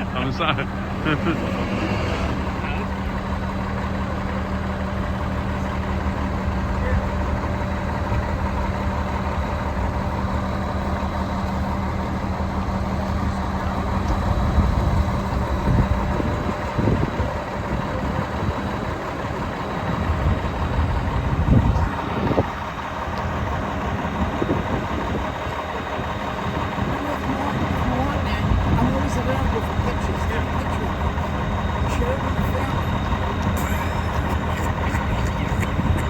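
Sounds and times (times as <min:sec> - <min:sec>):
large vehicle engine idling: 0:00.0 - 0:36.0.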